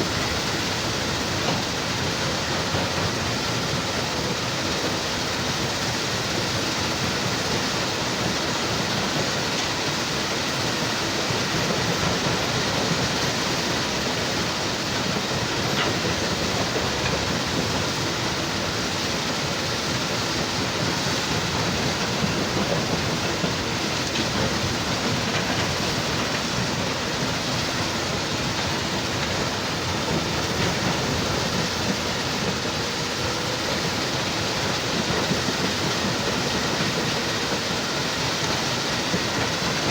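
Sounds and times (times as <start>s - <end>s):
excavator working: 0.0s - 39.9s.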